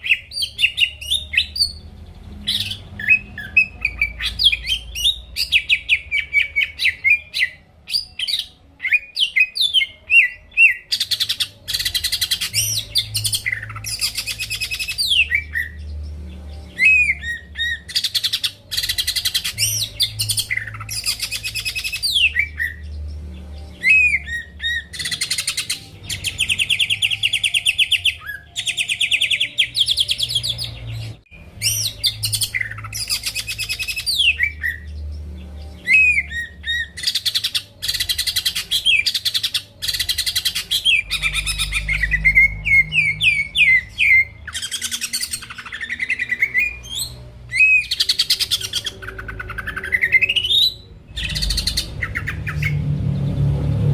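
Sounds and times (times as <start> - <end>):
bird singing: 0.0 - 53.9.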